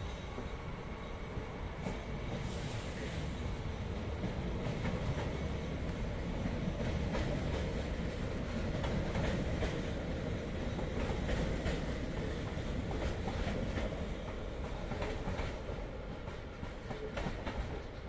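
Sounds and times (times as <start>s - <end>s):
train rumbling: 0.0s - 18.0s
train wheels clacking on rails: 0.0s - 18.0s.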